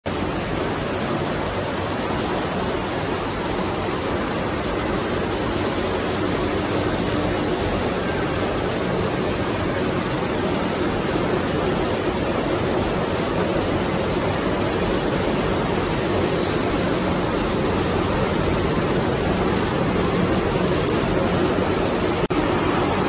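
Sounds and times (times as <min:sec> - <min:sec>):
faint machine hum: 0:00.1 - 0:23.0.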